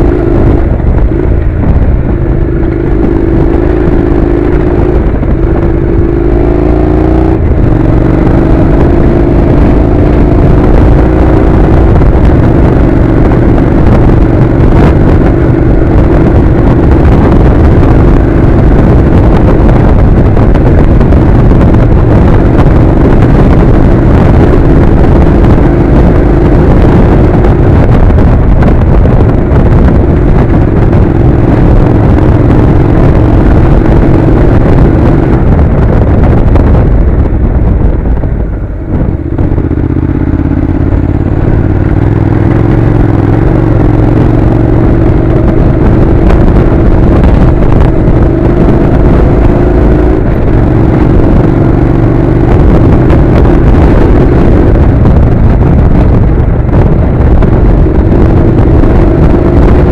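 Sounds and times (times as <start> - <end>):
motorcycle engine: 0.0 - 59.9
wind and tyres rumbling: 0.0 - 59.9.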